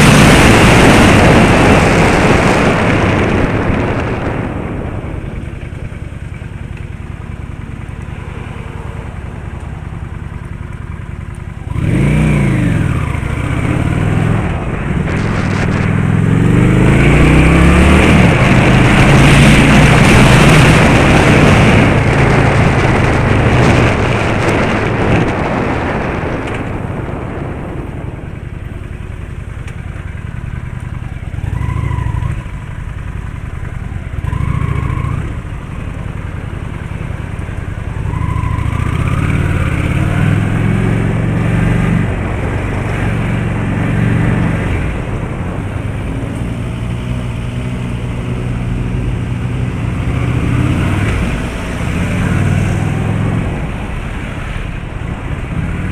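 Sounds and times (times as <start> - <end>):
loud rush of noise: 0.0 - 30.7, 34.2 - 55.9
vehicle engines and road noise: 0.0 - 55.9.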